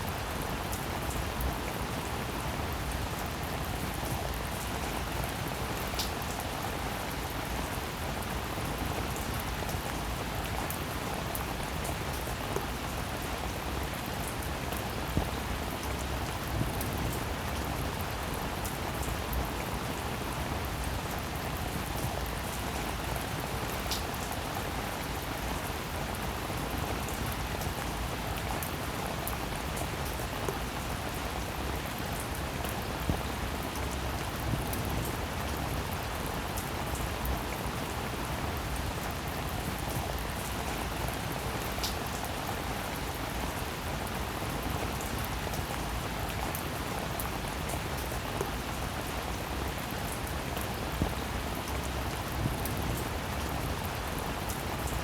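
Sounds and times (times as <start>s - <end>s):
dense rain hiss: 0.0s - 55.0s.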